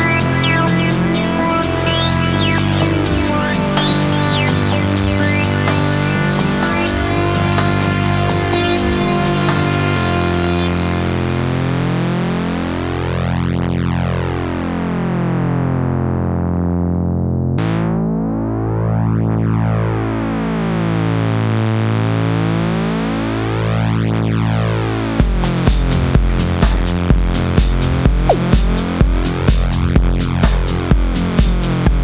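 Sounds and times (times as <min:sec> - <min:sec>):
synthesizer drone with flanger: 0:00.0 - 0:32.0.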